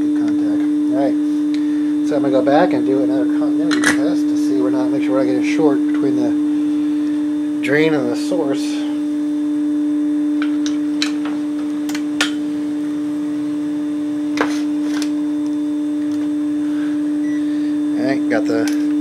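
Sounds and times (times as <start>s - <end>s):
loud single-pitched hum: 0.0s - 19.0s.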